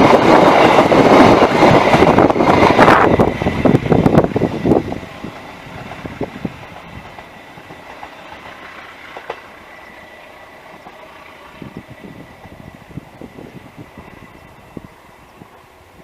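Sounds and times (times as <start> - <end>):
train wheels clacking on rails: 0.0 - 15.8.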